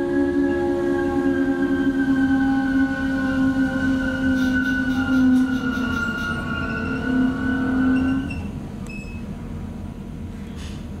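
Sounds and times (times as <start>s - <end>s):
train braking whine: 0.0s - 9.6s
train running rumble: 0.0s - 11.0s.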